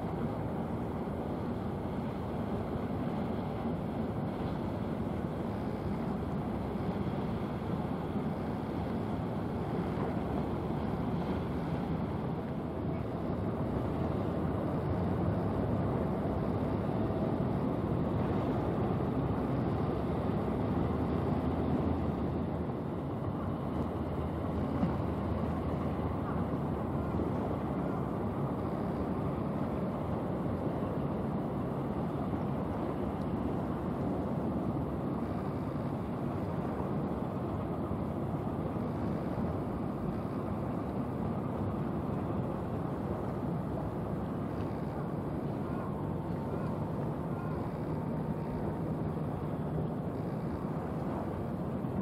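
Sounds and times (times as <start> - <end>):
ship engine rumble: 0.0 - 52.0.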